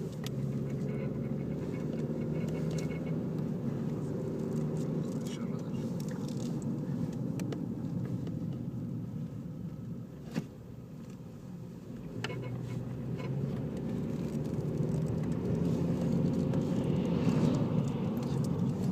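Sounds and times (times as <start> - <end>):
car engine rumbling: 0.0 - 18.9.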